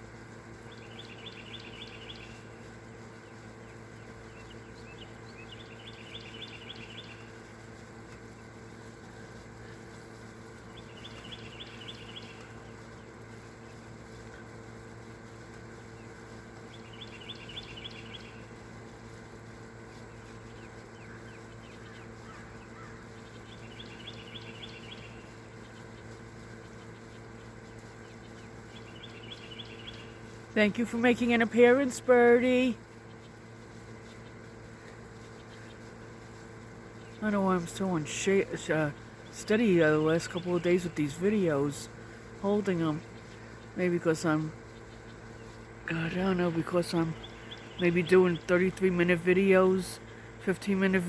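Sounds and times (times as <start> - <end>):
steady low hum: 0.0 - 51.0
songbird trilling: 0.6 - 7.4, 10.7 - 13.8, 15.9 - 18.6, 20.0 - 51.0.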